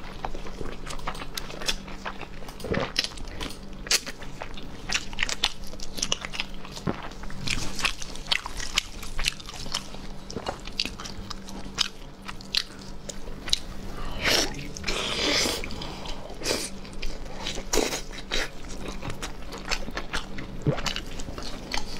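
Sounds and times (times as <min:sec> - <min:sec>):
wet chewing: 0:00.0 - 0:21.9.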